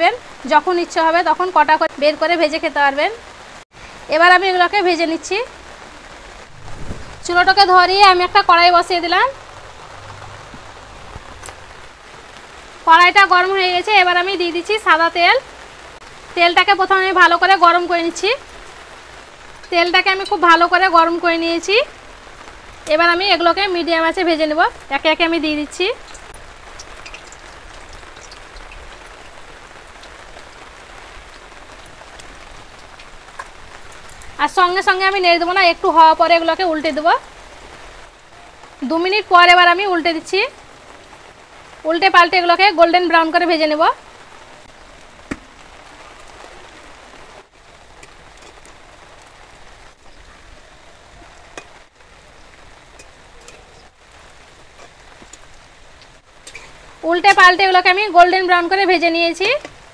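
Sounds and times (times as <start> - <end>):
food deep-frying in oil: 0.0 - 59.9.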